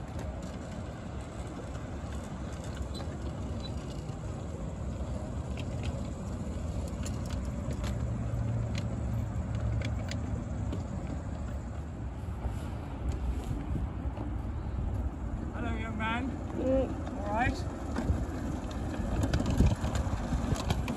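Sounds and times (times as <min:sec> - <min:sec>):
miniature train rumbling past: 0:00.0 - 0:13.1, 0:15.2 - 0:20.9.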